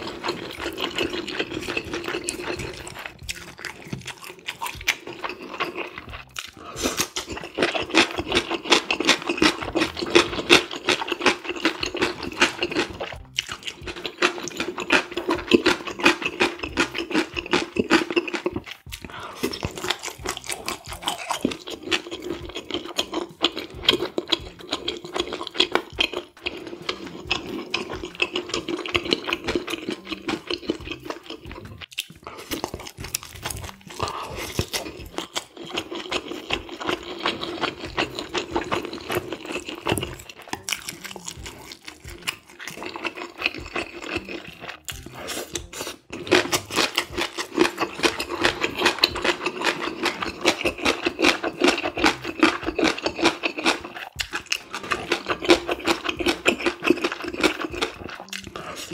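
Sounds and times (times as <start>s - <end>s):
wet chewing and mouth clicks: 0.0s - 58.9s.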